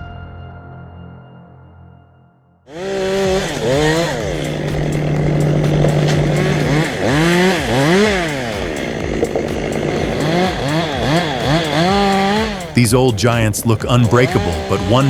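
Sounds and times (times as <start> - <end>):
chainsaw revving: 2.7 - 15.0.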